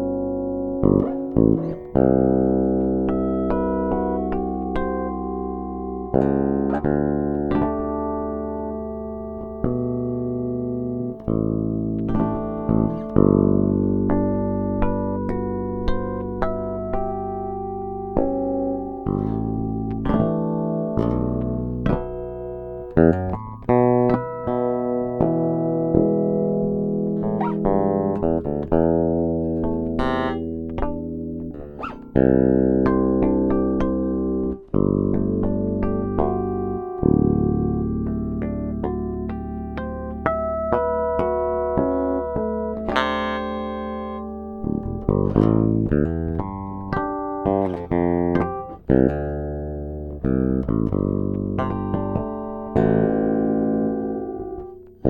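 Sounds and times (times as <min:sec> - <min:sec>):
electric bass plucked notes: 0:00.0 - 0:55.0.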